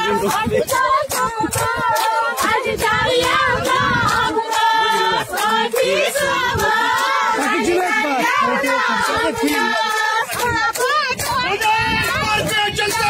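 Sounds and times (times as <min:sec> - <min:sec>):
crowd of women chanting: 0:00.0 - 0:13.0
sharp rhythmic beats: 0:00.0 - 0:13.0.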